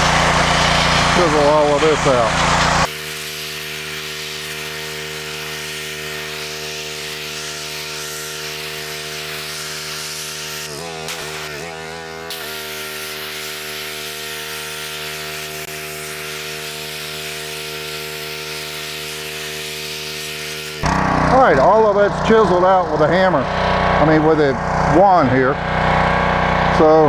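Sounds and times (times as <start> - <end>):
pressure washer engine running: 0.0 - 27.0.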